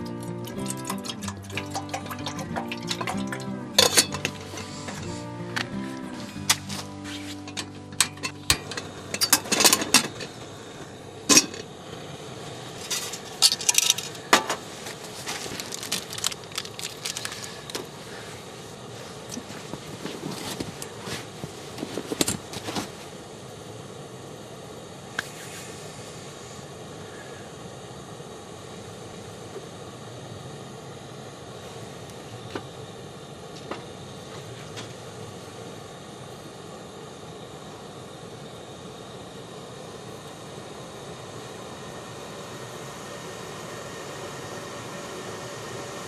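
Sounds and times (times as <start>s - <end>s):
steady background hiss: 0.0s - 46.0s.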